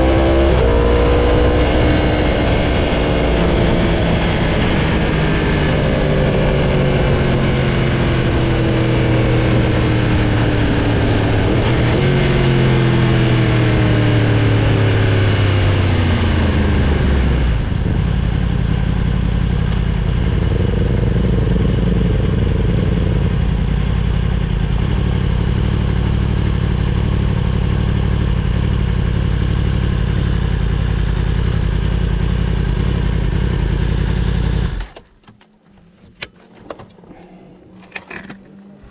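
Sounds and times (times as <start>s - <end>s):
motorcycle engine running: 0.0s - 35.1s.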